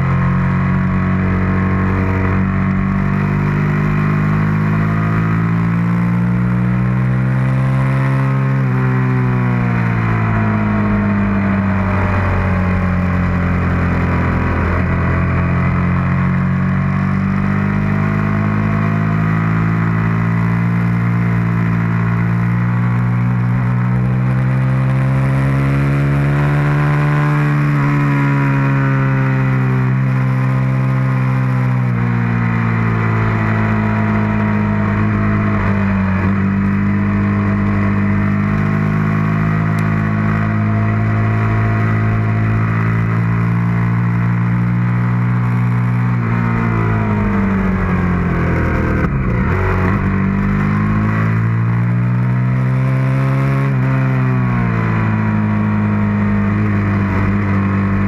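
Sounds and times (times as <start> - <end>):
motorcycle engine at track pace: 0.0 - 58.0.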